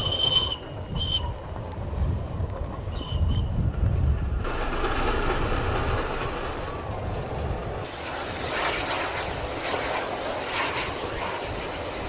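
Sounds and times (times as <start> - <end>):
low rumble of passing train: 0.0 - 12.0.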